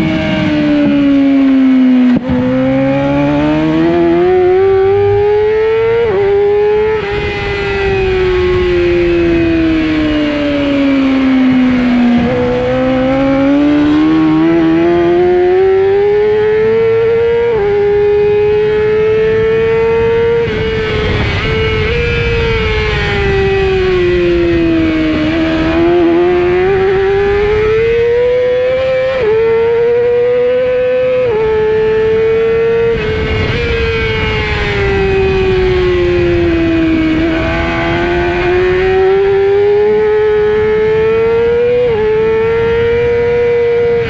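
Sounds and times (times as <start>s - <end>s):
racing motorcycle engine: 0.0s - 44.0s
rushing wind noise: 0.0s - 44.0s.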